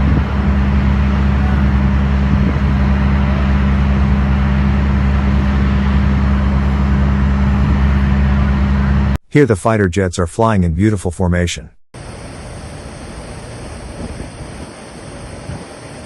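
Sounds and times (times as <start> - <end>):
vehicle engine drone: 0.0 - 9.2, 12.0 - 16.0.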